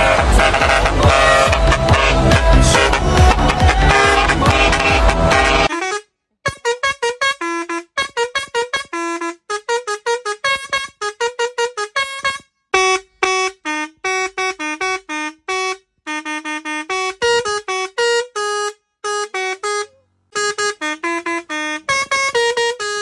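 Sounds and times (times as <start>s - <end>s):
electric musical horn tune: 0.0s - 23.0s.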